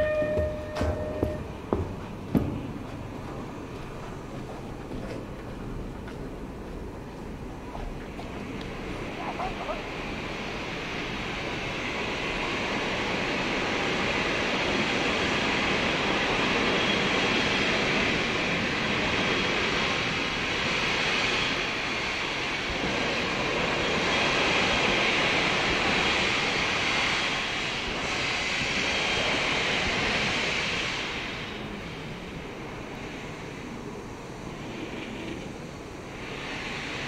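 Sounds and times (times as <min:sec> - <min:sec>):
locomotive venting steam hiss: 0:00.0 - 0:37.0.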